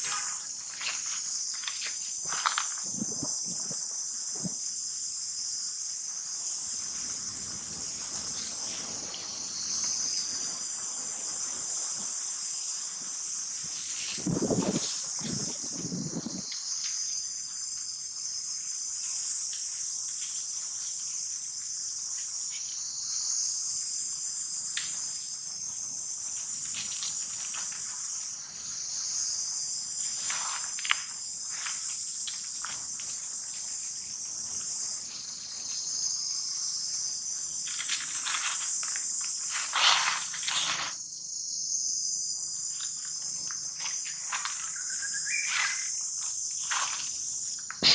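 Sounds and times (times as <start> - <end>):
insects shrilling: 0.0 - 47.9.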